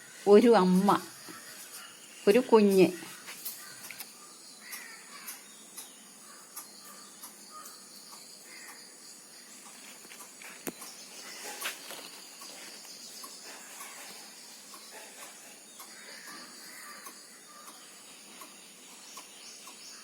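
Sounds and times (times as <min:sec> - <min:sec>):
high-pitched insect calls: 0:00.0 - 0:20.0.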